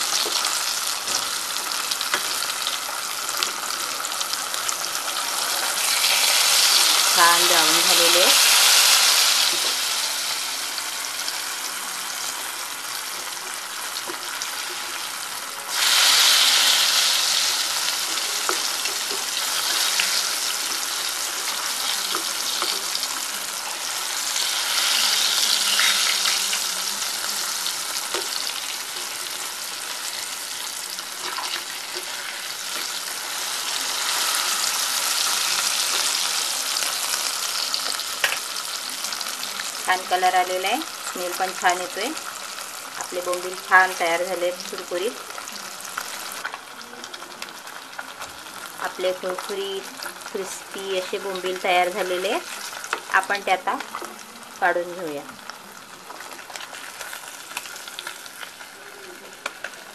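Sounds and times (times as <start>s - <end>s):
fish sizzling in hot oil: 0.0s - 59.9s
spatula turning frying fish: 0.0s - 59.9s.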